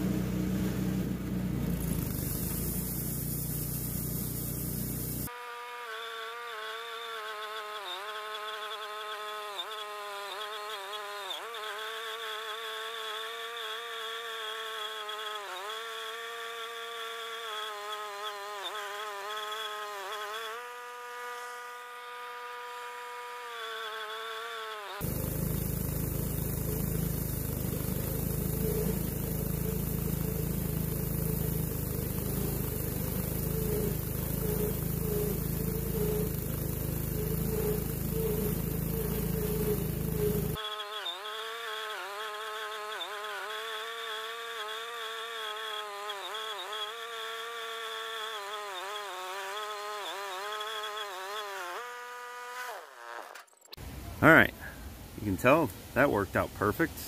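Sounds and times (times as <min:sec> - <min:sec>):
bandsaw mill cutting log: 0:00.0 - 0:54.5.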